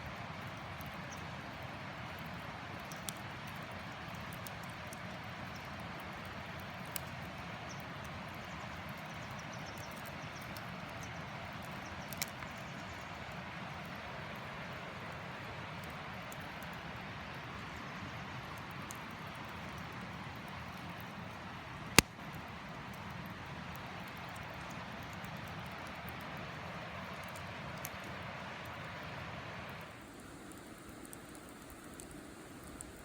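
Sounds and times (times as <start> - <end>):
campfire burning: 0.0 - 33.0
fire crackles and pops: 0.0 - 33.0.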